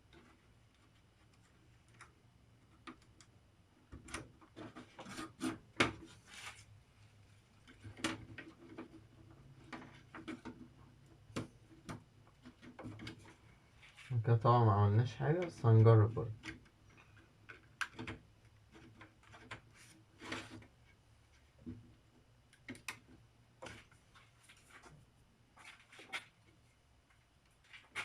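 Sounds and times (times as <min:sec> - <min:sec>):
small clicks taps and rubbing: 0:00.0 - 0:06.1, 0:07.5 - 0:14.1, 0:15.3 - 0:28.0.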